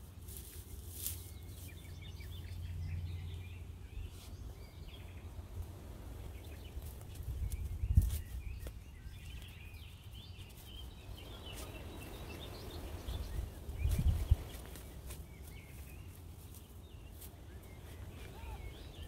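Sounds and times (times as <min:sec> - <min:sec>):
small birds singing: 0:00.0 - 0:19.0.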